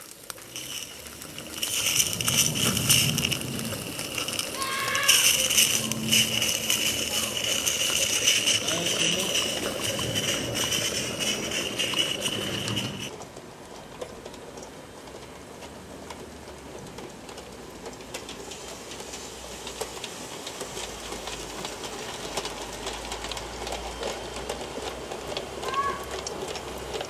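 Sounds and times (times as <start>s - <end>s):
model locomotive passing: 0.0s - 27.0s
wheels clicking over rail joints: 0.0s - 27.0s.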